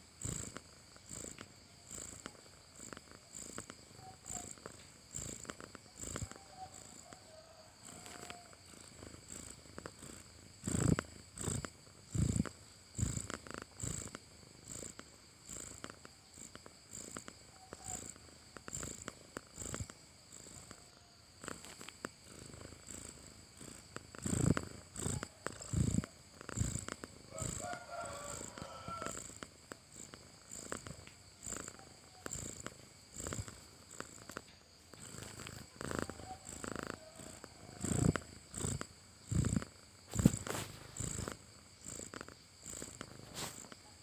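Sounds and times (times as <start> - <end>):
cat snoring: 0.0 - 44.0.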